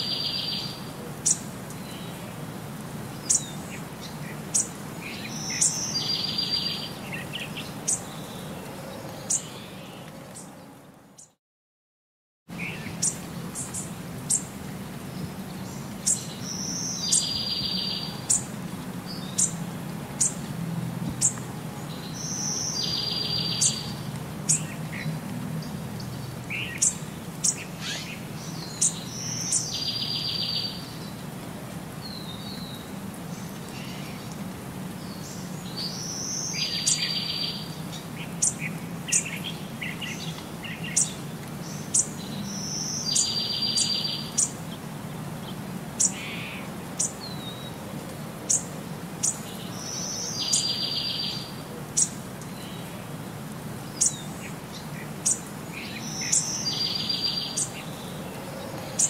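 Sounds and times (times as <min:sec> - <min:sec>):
birds chirping: 0:03.1 - 0:11.4, 0:12.5 - 0:20.4, 0:21.0 - 0:31.2, 0:35.0 - 0:47.8, 0:48.5 - 0:59.0.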